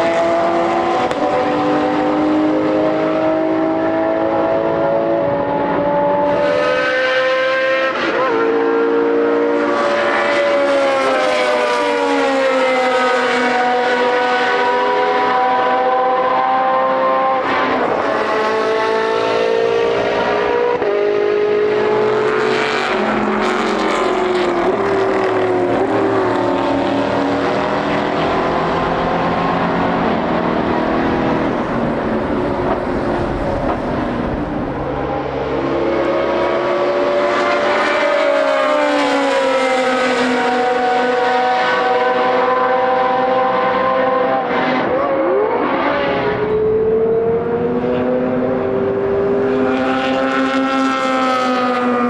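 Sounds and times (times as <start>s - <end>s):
racing cars passing at high revs: 0.0s - 52.0s.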